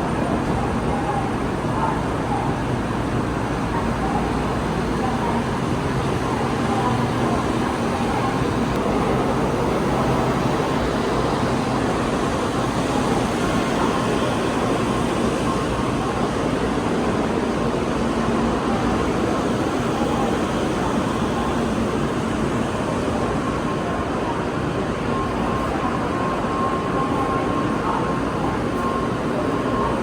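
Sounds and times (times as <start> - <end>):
hum of trains and machinery: 0.0 - 30.0
murmur of many voices: 0.0 - 30.0.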